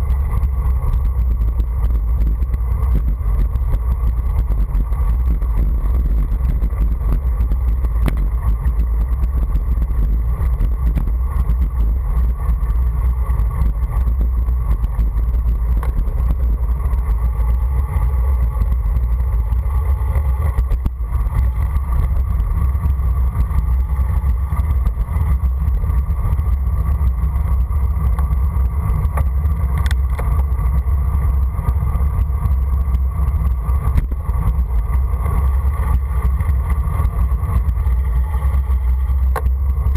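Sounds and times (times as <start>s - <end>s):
road noise on asphalt: 0.0s - 39.9s
wind rumble on microphone: 0.0s - 39.9s.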